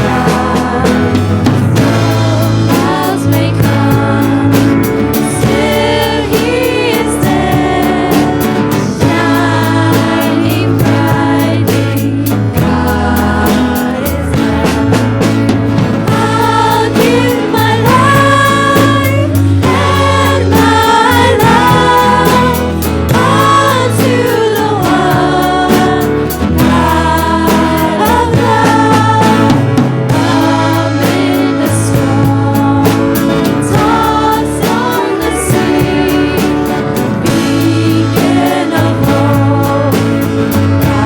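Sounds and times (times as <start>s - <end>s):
band accompaniment: 0.0s - 41.0s
choir singing worship song: 0.0s - 41.0s
steady bass line: 0.0s - 41.0s.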